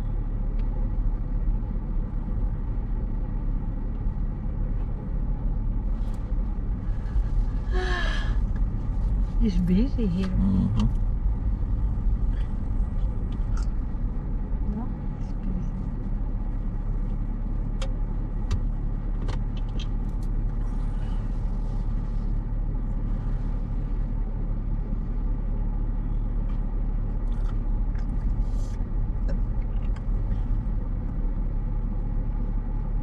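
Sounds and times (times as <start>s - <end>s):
car cabin hum: 0.0s - 33.0s.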